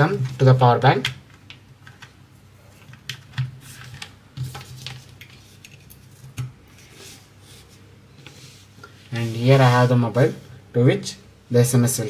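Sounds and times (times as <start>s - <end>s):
cables being handled: 0.0s - 9.8s.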